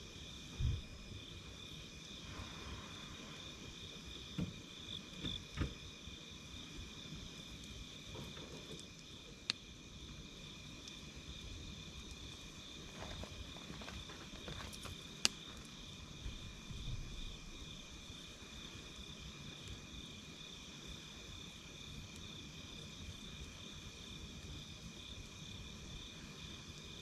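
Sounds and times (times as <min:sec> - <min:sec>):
campfire popping and crackling: 0:00.0 - 0:27.0
night insects chorus: 0:00.0 - 0:27.0.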